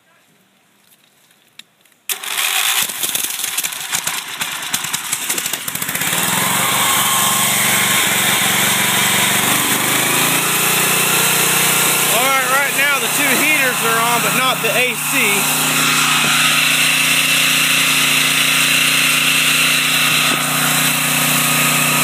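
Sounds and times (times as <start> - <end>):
generator engine starting: 2.1 - 22.0.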